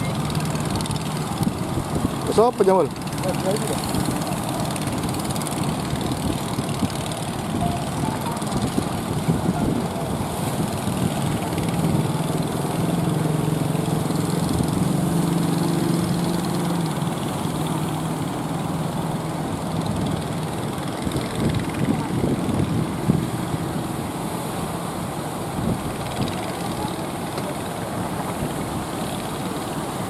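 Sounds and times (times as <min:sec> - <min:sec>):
small engine humming: 0:00.0 - 0:30.0
water rushing: 0:00.0 - 0:30.0.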